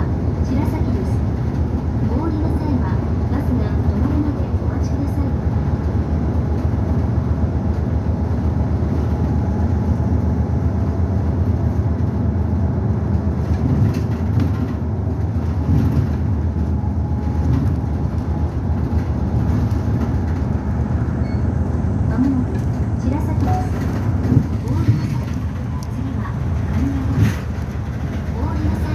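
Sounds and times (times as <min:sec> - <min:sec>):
bus engine rumble: 0:00.0 - 0:28.9.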